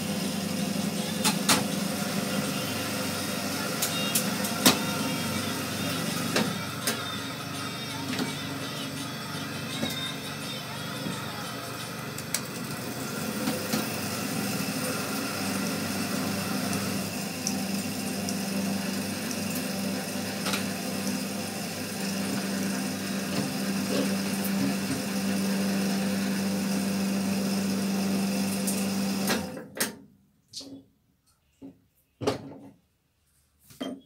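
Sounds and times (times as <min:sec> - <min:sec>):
winding machine humming: 0:00.0 - 0:29.2.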